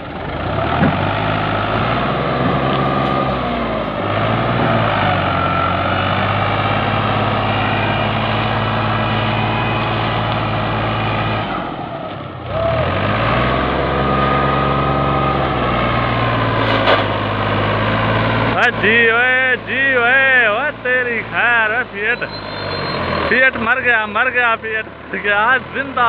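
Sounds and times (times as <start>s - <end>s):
tractor diesel engine labouring: 0.0s - 26.0s.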